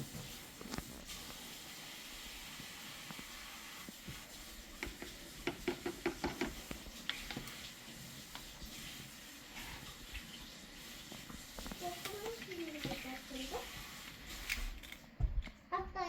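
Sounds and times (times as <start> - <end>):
faint steady hiss: 0.0 - 15.8.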